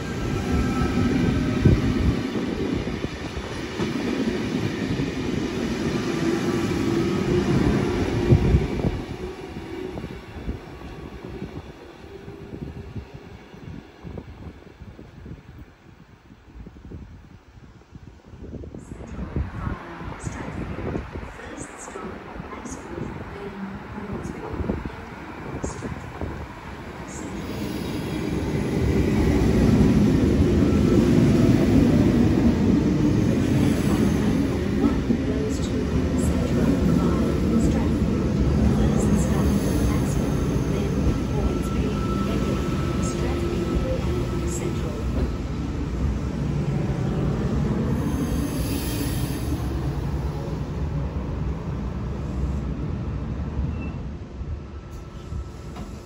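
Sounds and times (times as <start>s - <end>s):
train rumbling past slowly: 0.0s - 56.0s.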